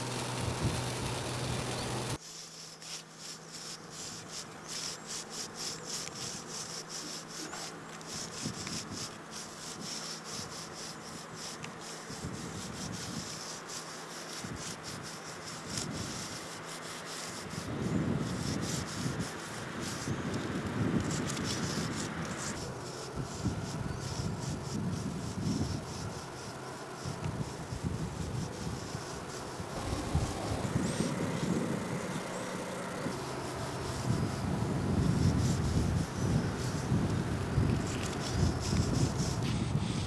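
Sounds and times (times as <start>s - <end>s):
charcoal scratching on concrete: 0.0s - 40.0s.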